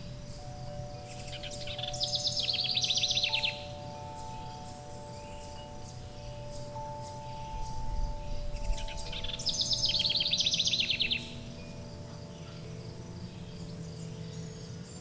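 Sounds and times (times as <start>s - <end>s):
high bird chirps: 0.0s - 15.0s
soft sustained tones: 0.0s - 15.0s
songbird fast trill: 0.0s - 15.0s.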